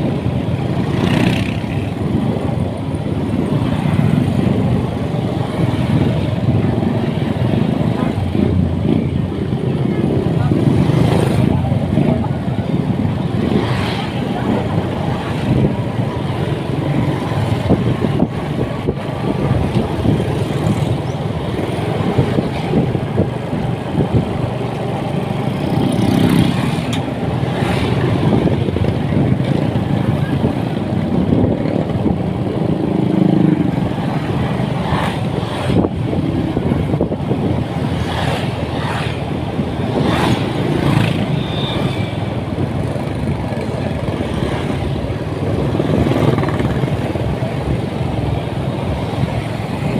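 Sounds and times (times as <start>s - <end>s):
motorcycle running: 0.0s - 49.9s
rush of road noise: 0.0s - 49.9s.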